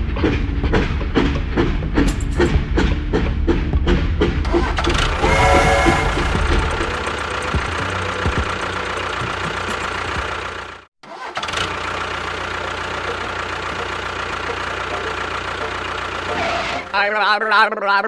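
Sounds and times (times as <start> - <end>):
engine running steadily: 0.0 - 16.6.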